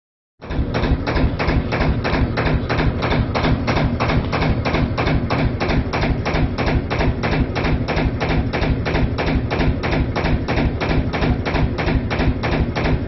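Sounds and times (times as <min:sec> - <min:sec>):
diesel engine running: 0:00.4 - 0:13.0.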